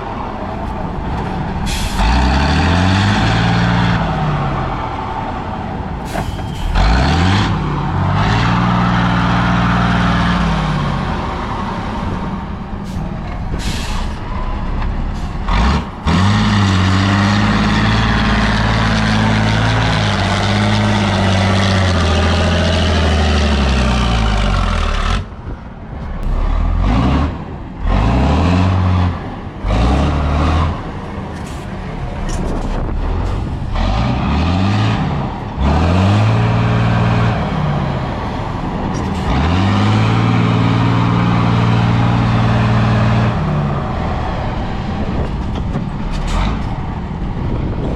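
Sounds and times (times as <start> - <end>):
truck engines revving: 0.0 - 47.9.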